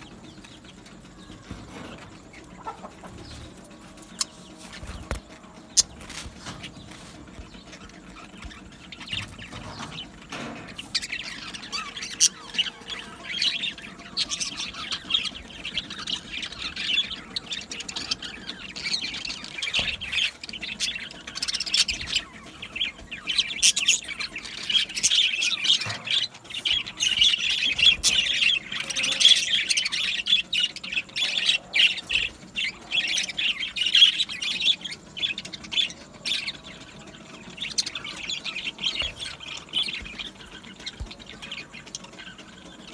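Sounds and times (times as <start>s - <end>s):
budgerigars chattering and squawking: 0.0s - 42.9s.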